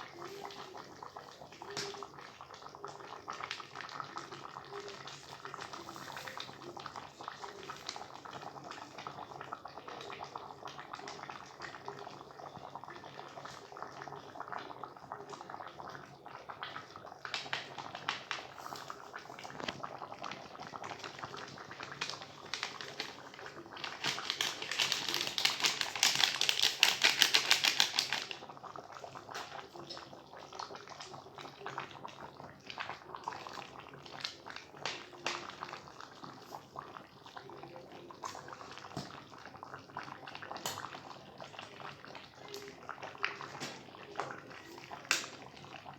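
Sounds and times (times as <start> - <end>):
curry bubbling and crackling: 0.0 - 45.9.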